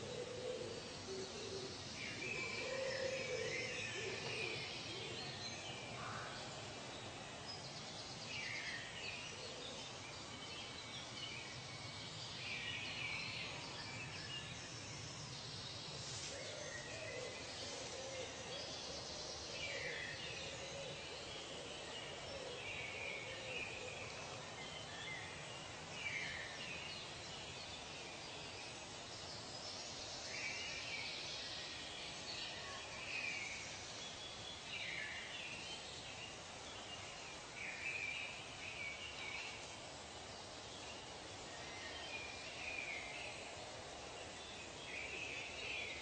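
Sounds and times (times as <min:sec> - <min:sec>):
steady background hiss: 0:00.0 - 0:46.0.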